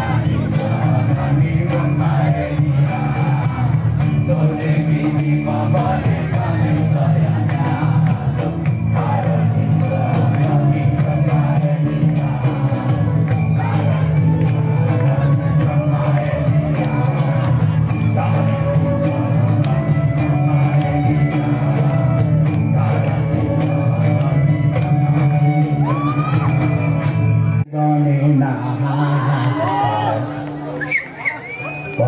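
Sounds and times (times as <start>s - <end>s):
bass guitar: 0.0s - 27.7s
drums: 0.0s - 27.7s
metallic percussion beat: 0.0s - 27.7s.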